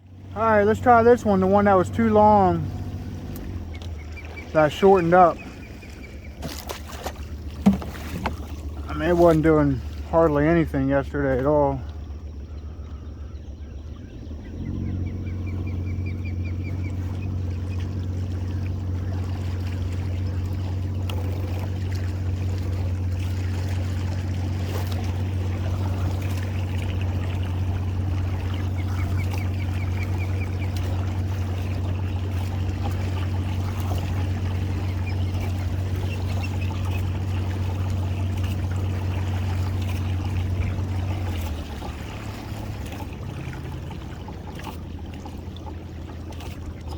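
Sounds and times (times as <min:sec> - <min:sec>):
boat motor running: 0:00.0 - 0:46.9
water trickling against hull: 0:00.0 - 0:46.9.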